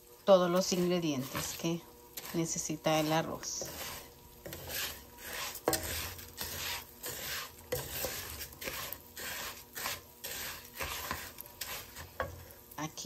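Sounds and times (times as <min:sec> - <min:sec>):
spatula scraping rice in pan: 0:00.5 - 0:12.8.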